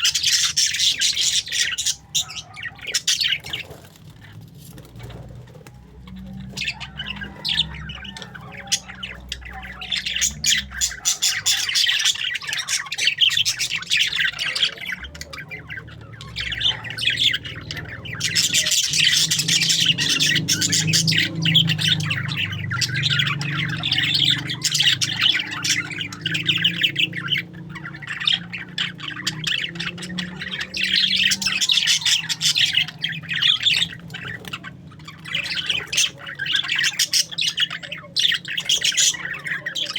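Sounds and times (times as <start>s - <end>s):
parakeets chattering and squawking: 0.0s - 39.9s.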